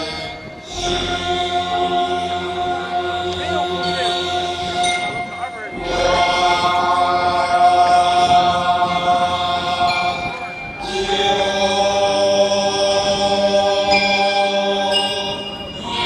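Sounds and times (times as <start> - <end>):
slow chanting: 0.0 - 16.0.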